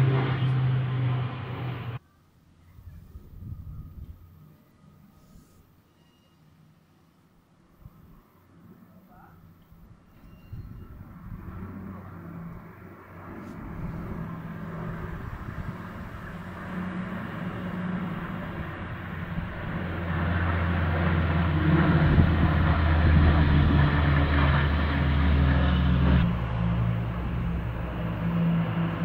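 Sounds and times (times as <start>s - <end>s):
propeller planes droning overhead: 0.0s - 29.0s.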